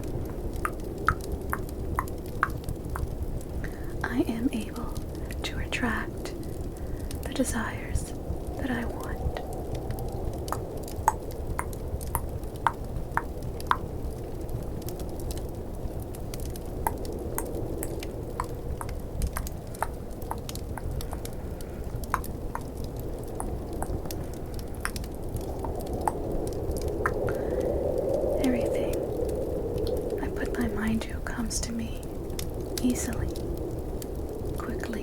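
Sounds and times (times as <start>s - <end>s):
snowstorm and fireplace ambience: 0.0s - 35.0s.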